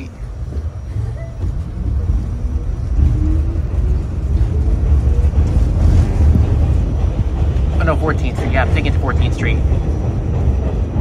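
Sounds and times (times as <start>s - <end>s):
subway car wheels rumbling: 0.0s - 11.0s.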